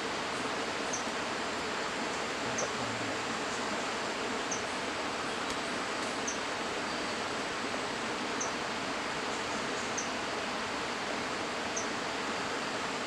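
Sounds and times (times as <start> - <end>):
forest ambience hiss: 0.0 - 13.0.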